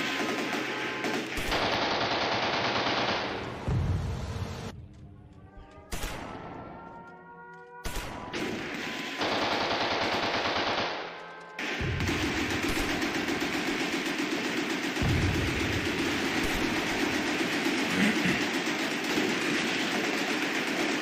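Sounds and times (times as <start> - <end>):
machine-gun fire: 0.0 - 4.7, 7.8 - 21.0.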